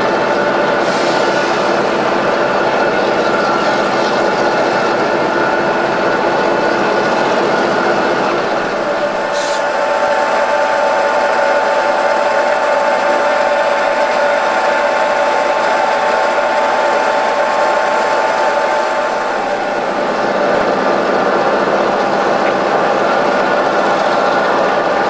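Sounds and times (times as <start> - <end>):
train running close by: 0.0 - 25.0.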